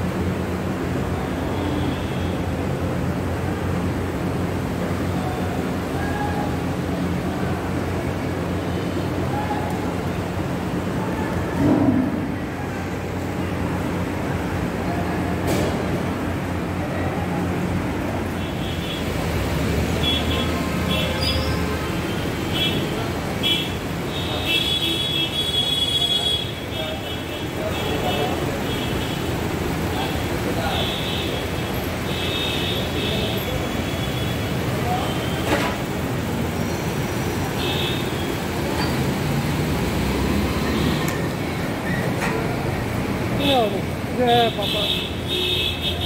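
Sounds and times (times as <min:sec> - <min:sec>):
street traffic rumble: 0:00.0 - 0:46.0.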